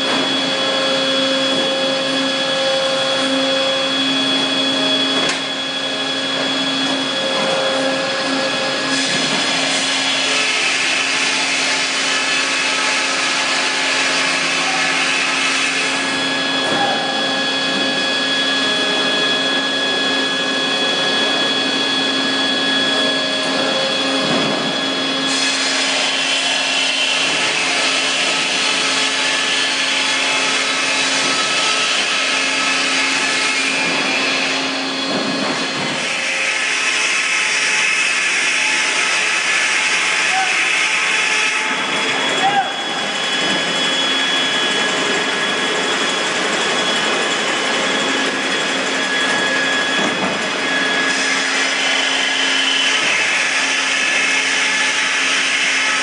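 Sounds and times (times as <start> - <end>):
sawmill motor hum: 0.0 - 56.0.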